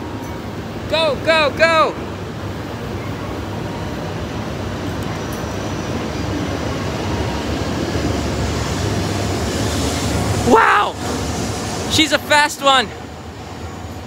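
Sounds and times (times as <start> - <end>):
bullet train rushing past: 0.0 - 14.0.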